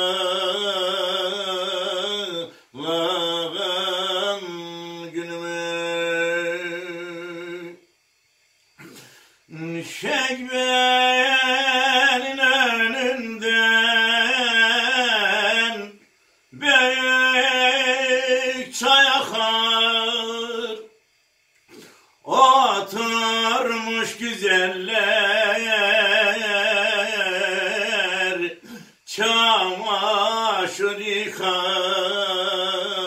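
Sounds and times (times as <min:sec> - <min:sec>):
man singing unaccompanied: 0:00.0 - 0:07.9, 0:09.5 - 0:21.0, 0:22.2 - 0:33.0.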